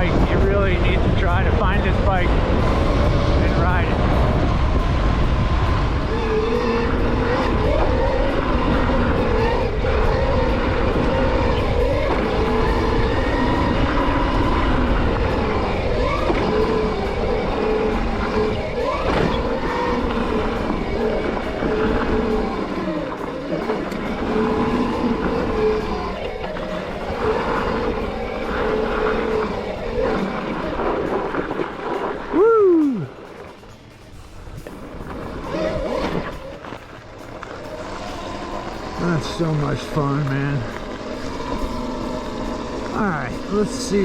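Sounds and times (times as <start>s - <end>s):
electric motor whine: 0.0s - 32.4s, 33.1s - 44.0s
wind noise: 0.0s - 44.0s.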